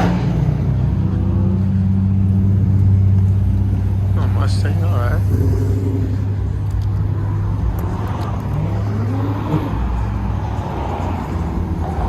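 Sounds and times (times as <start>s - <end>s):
car engine revving: 0.0s - 12.0s
car engines idling: 0.1s - 12.0s.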